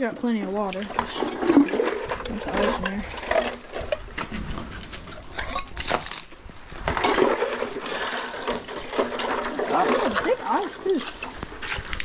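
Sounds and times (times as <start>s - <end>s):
buckets and scoop clattering: 0.0s - 12.0s.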